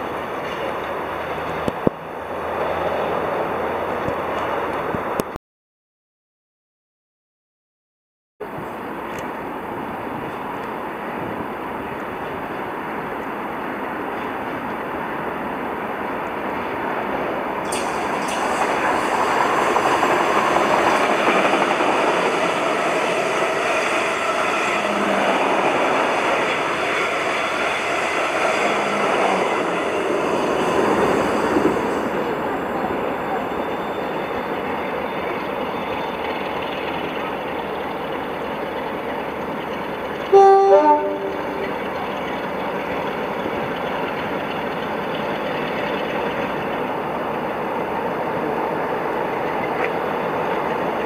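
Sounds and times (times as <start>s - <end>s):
train rumbling past: 0.0s - 5.2s, 8.5s - 51.0s.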